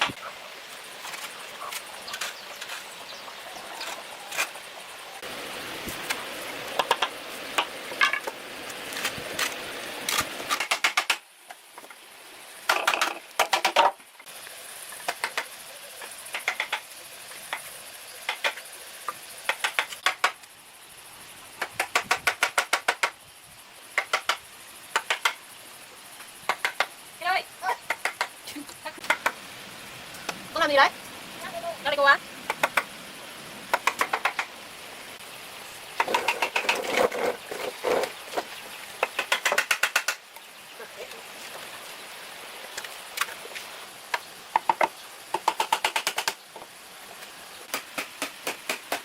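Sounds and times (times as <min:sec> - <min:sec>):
steady background hiss: 0:00.0 - 0:49.0.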